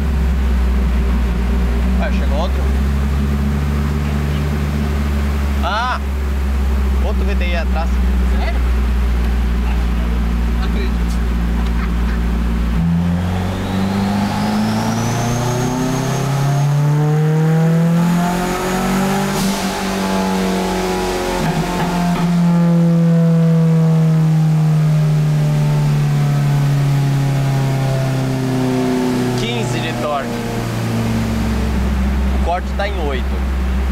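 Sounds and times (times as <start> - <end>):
car engine pulling under load: 0.0 - 33.9
turbo whine: 0.0 - 33.9.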